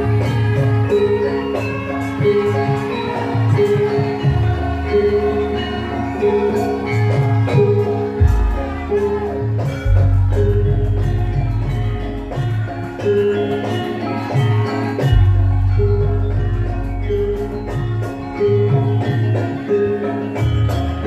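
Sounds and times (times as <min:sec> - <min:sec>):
metal mallet instruments melody: 0:00.0 - 0:21.0.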